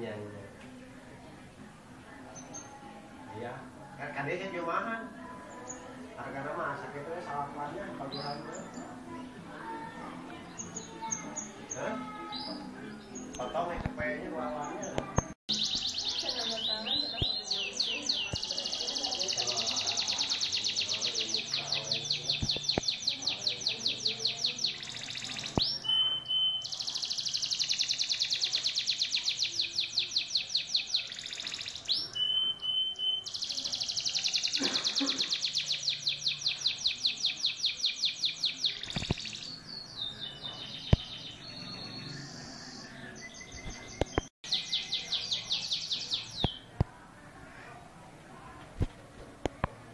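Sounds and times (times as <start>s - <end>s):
canary singing trills: 3.6s - 46.8s.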